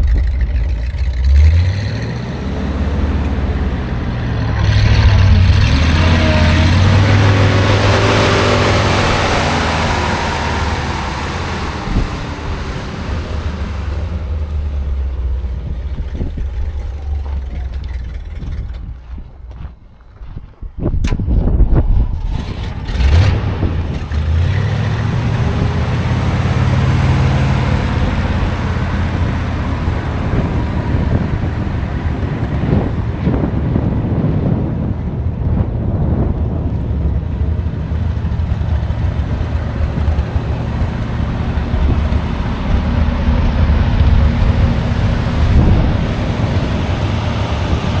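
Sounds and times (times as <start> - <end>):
truck engine running: 0.0 - 20.1, 21.9 - 48.0.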